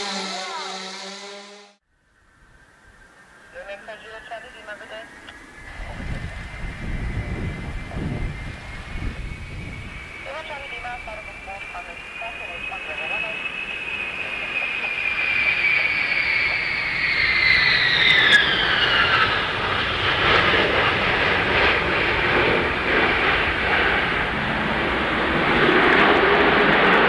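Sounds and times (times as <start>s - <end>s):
jet airliner whine and roar: 2.2s - 27.0s.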